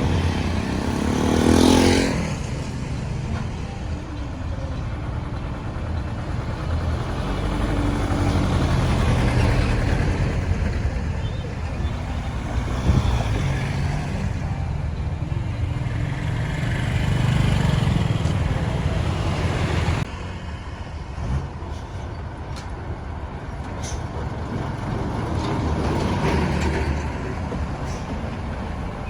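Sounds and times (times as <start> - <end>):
traffic engine rumble: 0.0 - 29.0.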